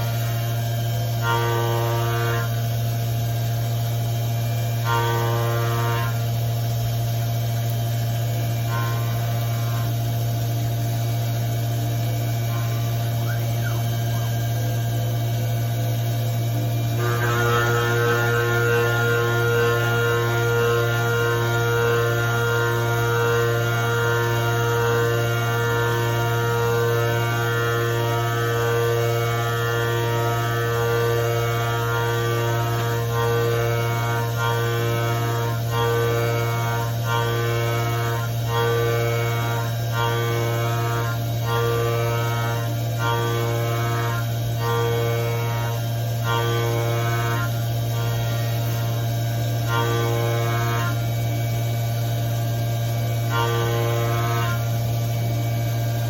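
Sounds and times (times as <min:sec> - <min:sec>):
machining whine: 0:00.0 - 0:56.0
milling machine humming: 0:00.0 - 0:56.0.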